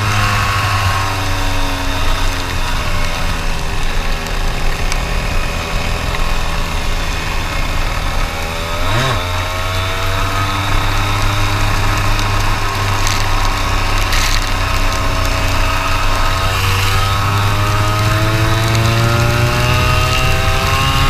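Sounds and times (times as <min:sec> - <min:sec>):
kart engine running: 0:00.0 - 0:21.0.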